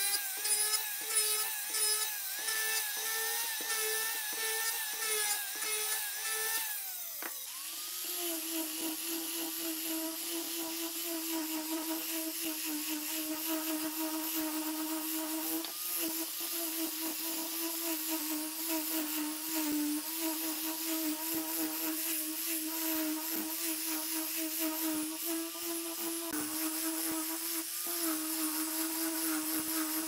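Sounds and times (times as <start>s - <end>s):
angle grinder sanding wood: 0.0s - 30.0s.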